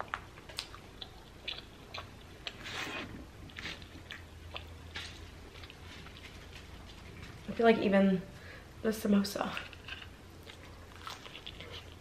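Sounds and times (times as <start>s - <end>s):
wet chewing sounds: 0.0s - 7.4s, 9.6s - 12.0s.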